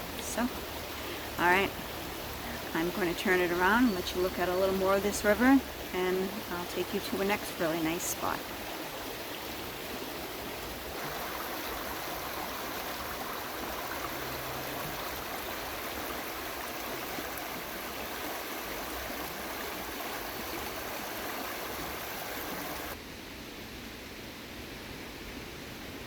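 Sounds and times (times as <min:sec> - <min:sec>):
river water flowing: 0:00.0 - 0:23.1.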